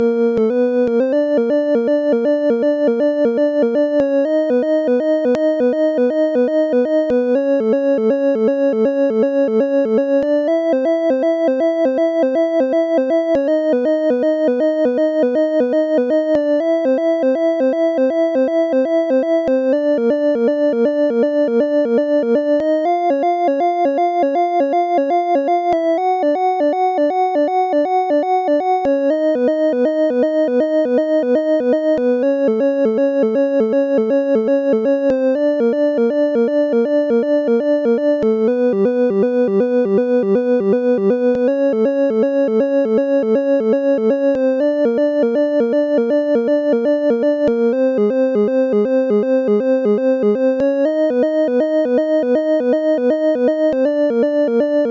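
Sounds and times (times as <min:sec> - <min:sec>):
synthesizer repeated chord pulse: 0:00.0 - 0:54.9.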